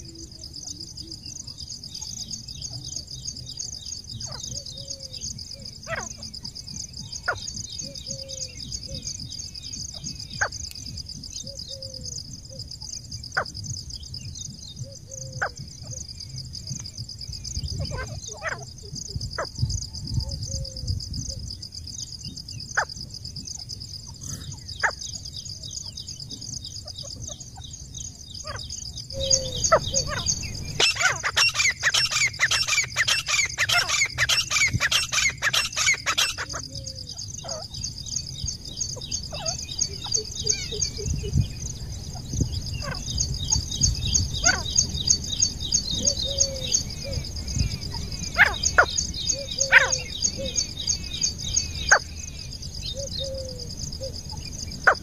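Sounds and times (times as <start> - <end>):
francolin calling: 0.0 - 23.0, 23.6 - 55.0.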